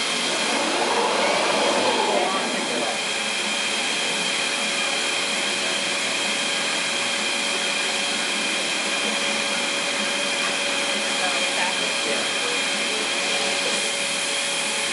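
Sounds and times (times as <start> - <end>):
machine with high whine: 0.0 - 14.9.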